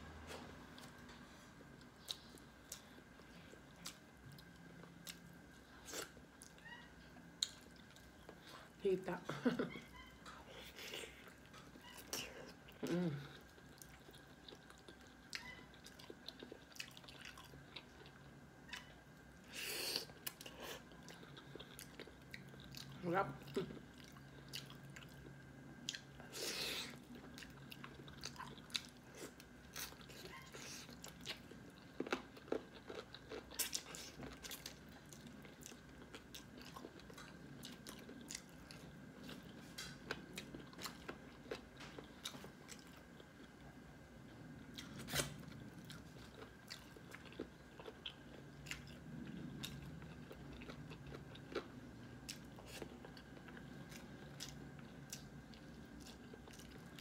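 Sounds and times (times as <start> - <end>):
person chewing food: 0.1 - 8.8, 9.8 - 57.0.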